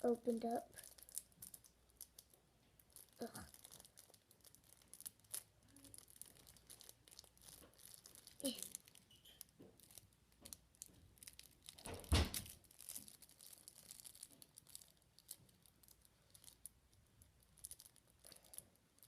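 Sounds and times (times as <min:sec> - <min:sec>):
packaging tearing and crinkling: 0:00.0 - 0:19.0.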